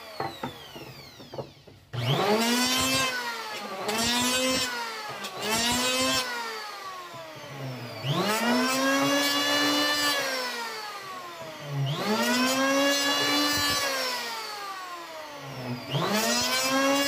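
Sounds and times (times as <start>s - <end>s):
electric hand planer motor whining: 0.0s - 17.0s.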